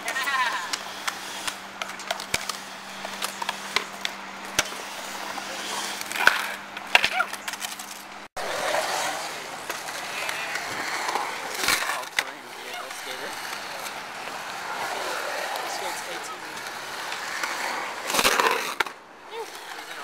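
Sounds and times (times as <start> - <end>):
skateboard clicks and clacks: 0.0 - 20.0
skateboard wheels rolling on concrete: 0.0 - 20.0.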